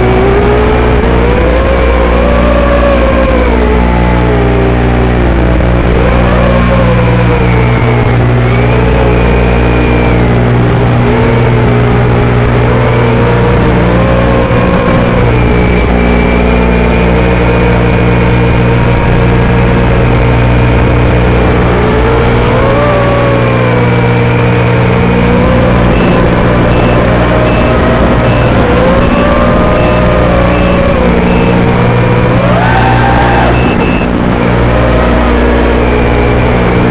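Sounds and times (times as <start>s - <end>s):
loud buzzing hum: 0.0s - 36.9s
wavering tone: 0.0s - 36.9s.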